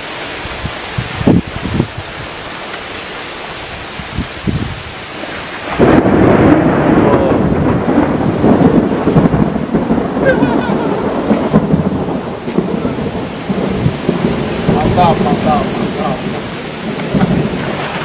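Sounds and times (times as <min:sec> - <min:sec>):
thunder rumble: 0:00.0 - 0:02.5, 0:04.0 - 0:18.0
heavy rain: 0:00.0 - 0:18.0
wind: 0:00.0 - 0:18.0.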